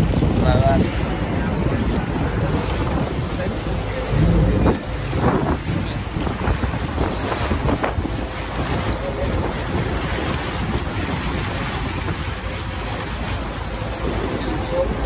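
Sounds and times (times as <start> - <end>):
rush of churned water: 0.0 - 15.0
steady low rumble: 0.0 - 15.0
wind buffeting microphone: 0.0 - 15.0.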